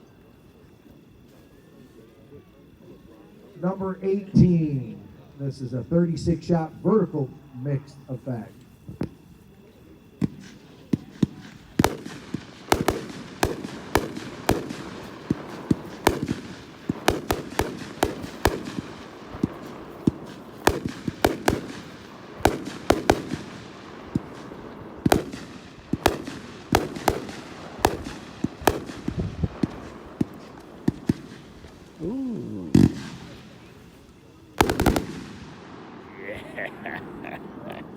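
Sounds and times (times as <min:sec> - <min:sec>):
firework crackling: 0:00.0 - 0:37.9
firework reports: 0:00.0 - 0:37.9.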